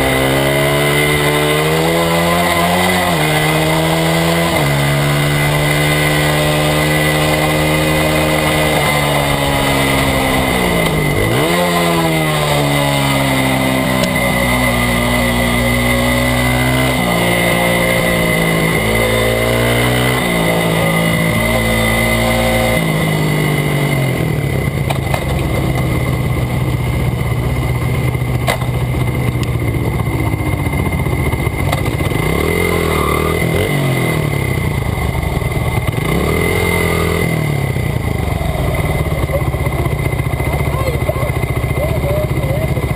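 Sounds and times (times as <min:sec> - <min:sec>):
small motorbike engine revving: 0:00.0 - 0:42.9.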